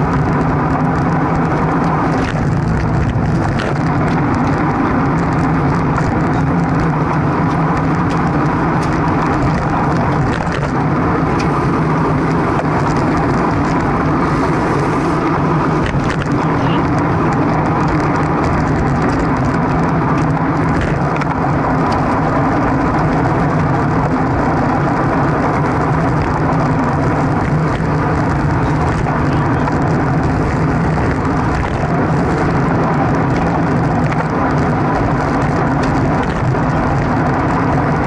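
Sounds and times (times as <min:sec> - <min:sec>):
tyres humming on road: 0:00.0 - 0:38.0
wind buffeting microphone: 0:00.0 - 0:38.0.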